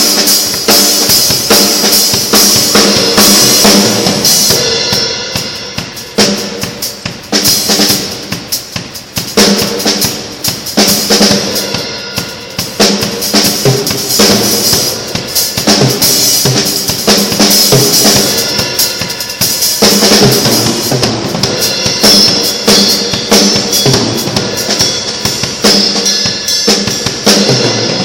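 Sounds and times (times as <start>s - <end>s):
drum kit groove: 0.0s - 28.0s.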